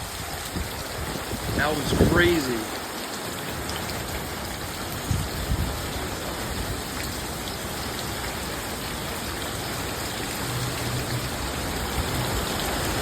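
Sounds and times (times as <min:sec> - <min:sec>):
heavy rain pouring: 0:00.0 - 0:13.0
wind: 0:00.0 - 0:13.0.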